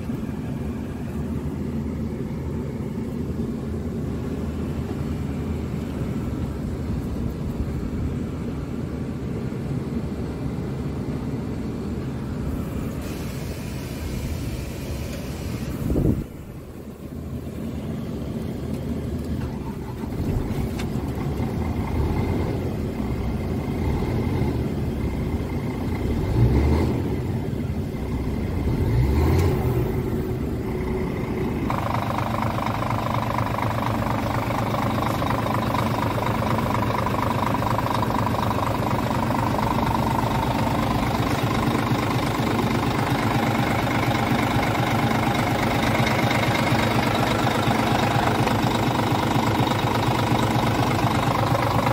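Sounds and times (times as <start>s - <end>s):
diesel engine idling and revving: 0.0s - 51.9s.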